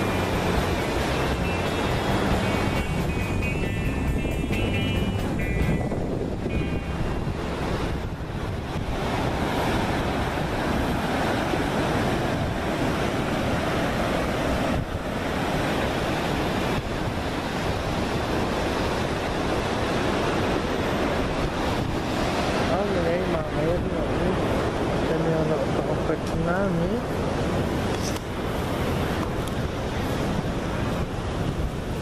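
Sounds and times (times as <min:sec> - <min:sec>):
ocean surf: 0:00.0 - 0:32.0
wind on microphone: 0:00.0 - 0:32.0.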